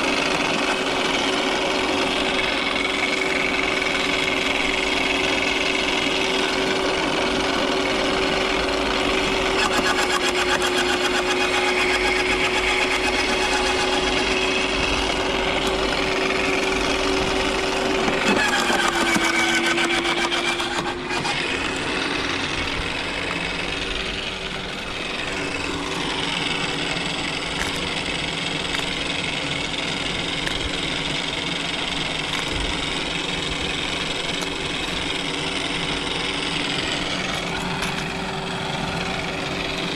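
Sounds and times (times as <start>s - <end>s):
garden shredder running: 0.0s - 39.9s
shredder chewing up branches: 0.0s - 39.9s.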